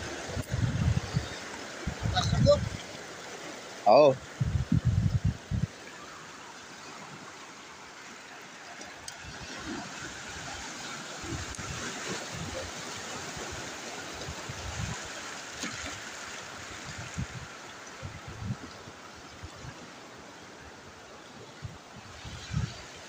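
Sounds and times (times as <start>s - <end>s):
surf washing over rocks: 0.0s - 23.0s.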